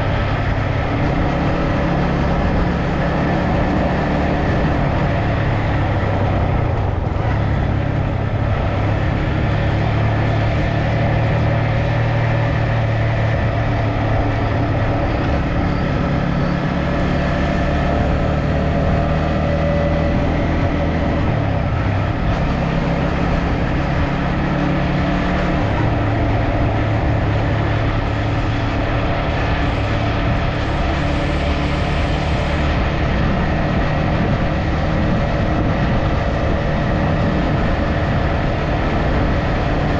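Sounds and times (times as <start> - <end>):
road noise: 0.0 - 39.9
vehicle engine hum: 0.0 - 39.9.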